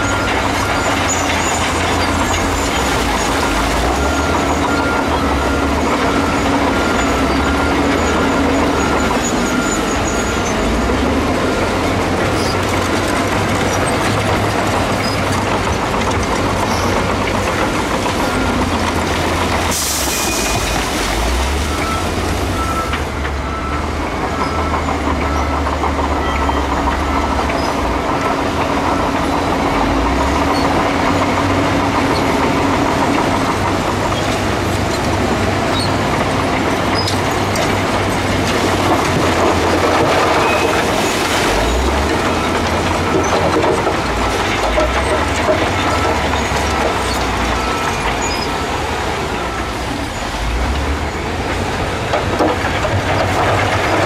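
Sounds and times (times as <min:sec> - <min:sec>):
diesel engines running: 0:00.0 - 0:54.0
steel tracks clanking and squealing: 0:00.0 - 0:54.0.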